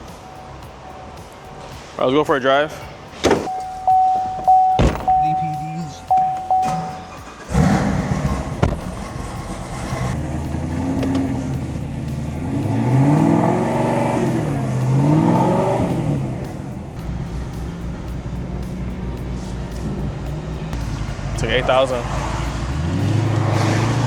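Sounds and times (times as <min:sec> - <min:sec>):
car engine starting and revving: 0:03.5 - 0:24.0.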